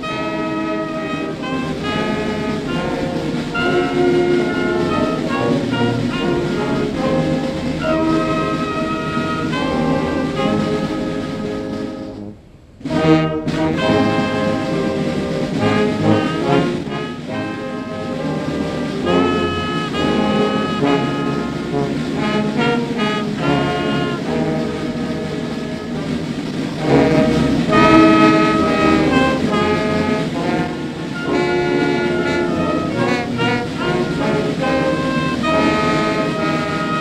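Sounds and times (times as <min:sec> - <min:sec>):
brass band playing: 0:00.0 - 0:37.0.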